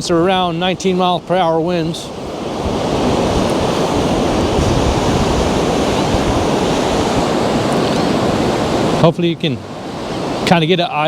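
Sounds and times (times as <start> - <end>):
wind noise on microphone: 0.0 - 9.0
surf: 0.0 - 11.0.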